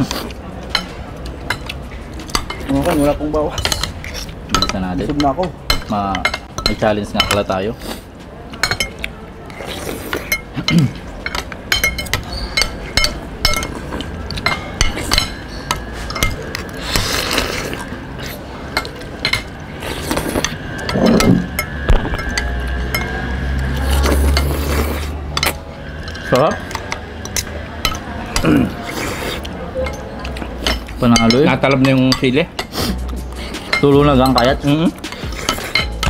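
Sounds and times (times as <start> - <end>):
cutlery clinking on plates: 0.0 - 7.7, 8.5 - 17.0, 18.2 - 23.2, 25.3 - 29.1, 29.8 - 36.0.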